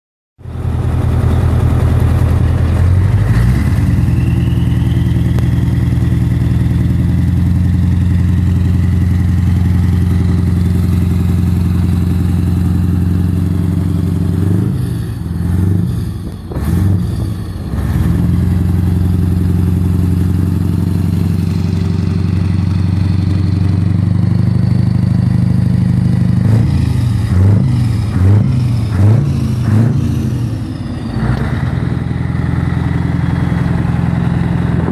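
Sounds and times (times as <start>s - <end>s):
diesel engine idling: 0.4s - 34.9s
engine revving blips: 0.4s - 34.9s.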